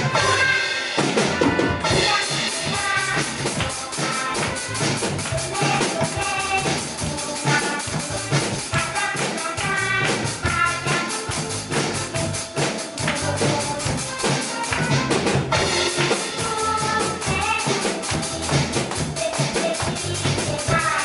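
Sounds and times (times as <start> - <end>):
children's song backing track: 0.0 - 21.0
drum kit playing: 0.0 - 21.0.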